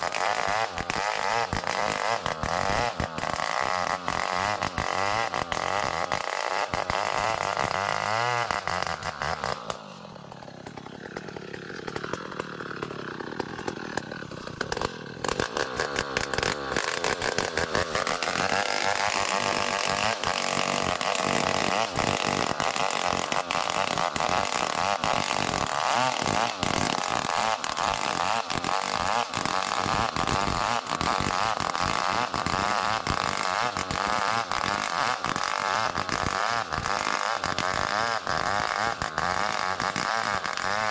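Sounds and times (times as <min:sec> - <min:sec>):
chainsaw sawing logs: 0:00.0 - 0:40.9.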